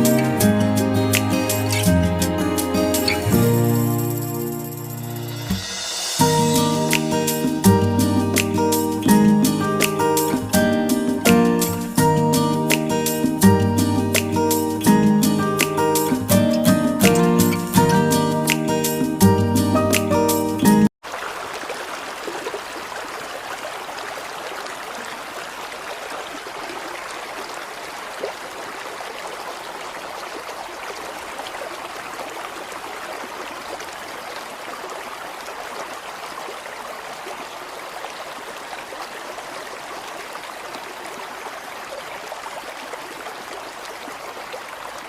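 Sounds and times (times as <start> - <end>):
water flowing: 0.0 - 45.0.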